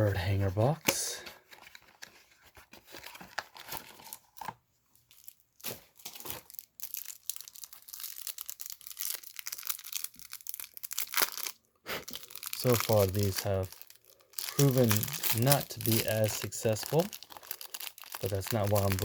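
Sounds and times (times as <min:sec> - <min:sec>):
packaging crinkling and tearing: 0:00.8 - 0:19.0.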